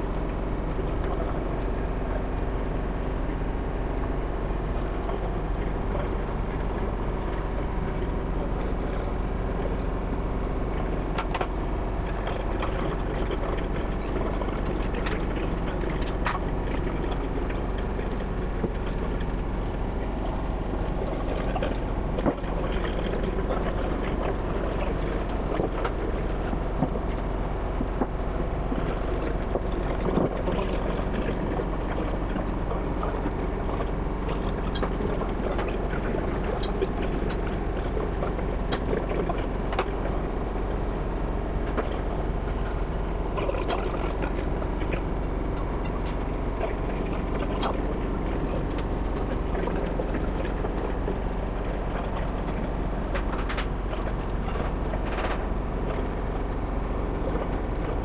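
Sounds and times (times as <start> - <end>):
workshop machinery drone: 0.0 - 58.0.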